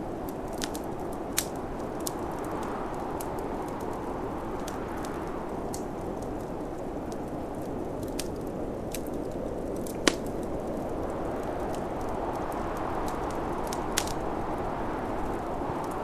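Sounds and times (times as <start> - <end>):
fire popping: 0.0 - 16.0
snowstorm wind rushing: 0.0 - 16.0
wood fire crackling: 0.0 - 16.0.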